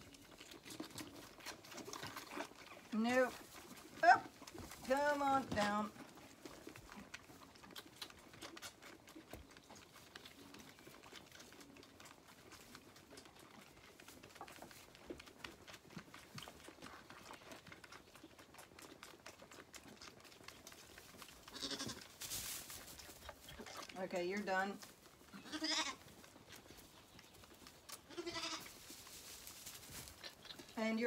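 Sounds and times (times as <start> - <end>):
lambs sucking on bottle teats: 0.0 - 31.0.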